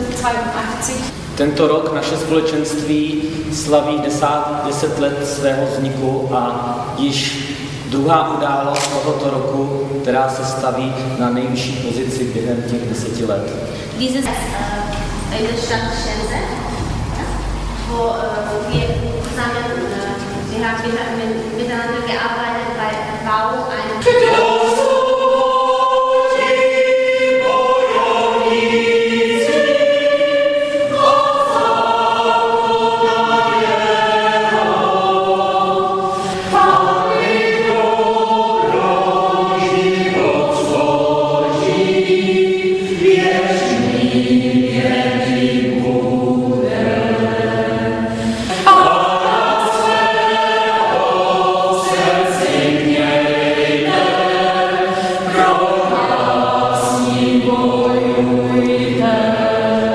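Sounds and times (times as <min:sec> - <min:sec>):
mixed choir singing in harmony: 0:00.0 - 0:22.2, 0:22.8 - 0:59.9.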